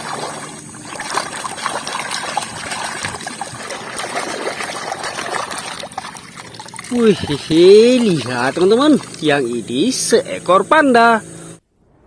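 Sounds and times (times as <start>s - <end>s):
water trickling and splashing: 0.0s - 10.6s.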